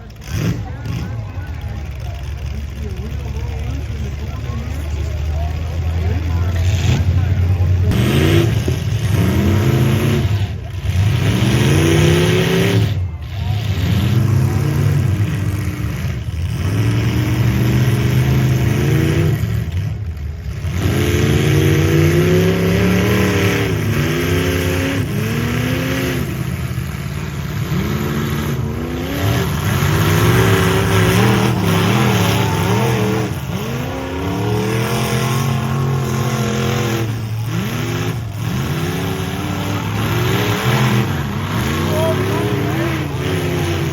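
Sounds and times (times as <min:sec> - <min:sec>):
car engines revving hard: 0:00.0 - 0:43.9.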